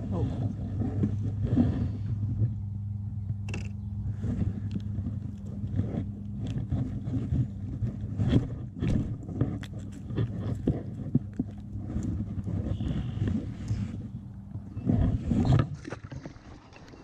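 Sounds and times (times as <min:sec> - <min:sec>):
small clicks and scrapes: 0:00.0 - 0:02.6, 0:03.2 - 0:17.0
steady low hum: 0:00.0 - 0:17.0.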